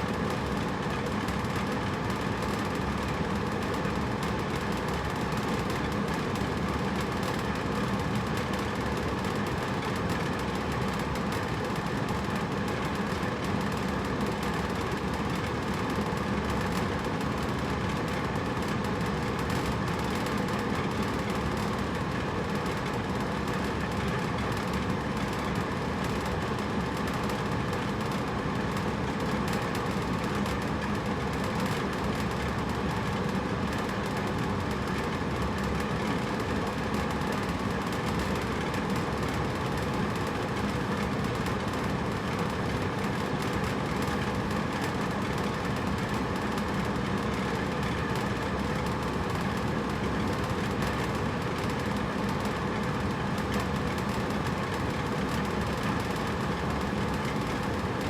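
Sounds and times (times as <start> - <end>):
air conditioner running: 0.0 - 58.0.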